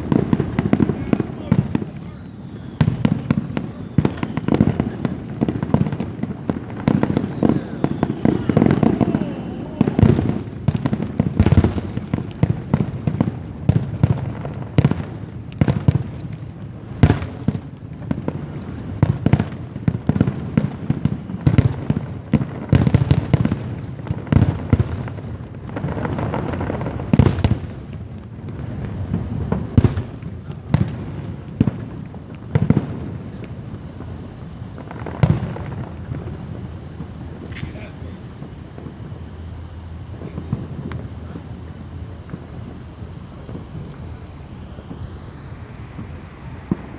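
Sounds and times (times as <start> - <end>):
continuous low rumble: 0.0 - 46.9
fireworks bursting: 0.0 - 46.9.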